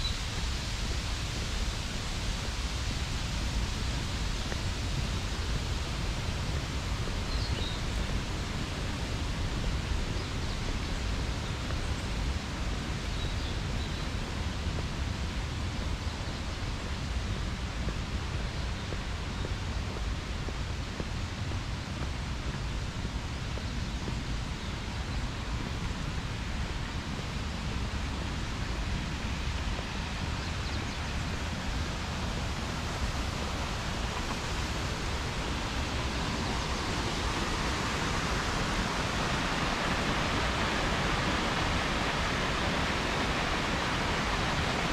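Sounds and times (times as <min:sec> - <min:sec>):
even hiss: 0:00.0 - 0:44.9
wind rumble on microphone: 0:00.0 - 0:44.9.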